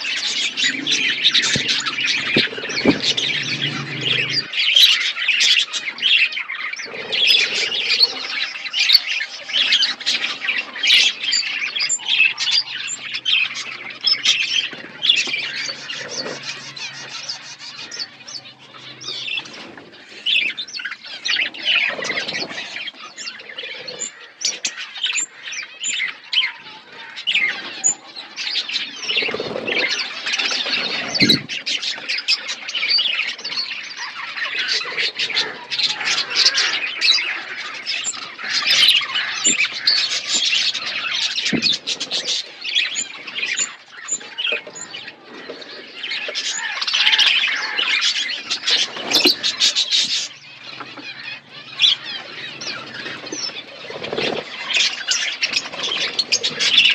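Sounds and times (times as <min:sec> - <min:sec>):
budgerigars chirping: 0:00.0 - 0:56.9.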